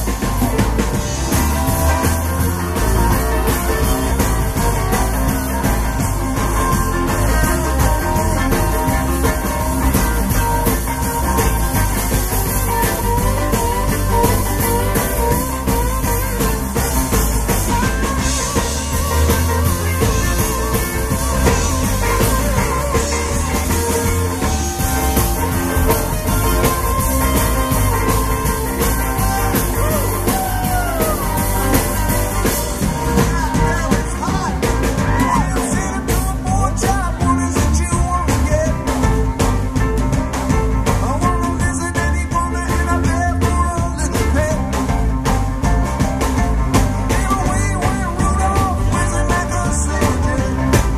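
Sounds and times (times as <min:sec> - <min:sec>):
live rock band playing: 0:00.0 - 0:50.9.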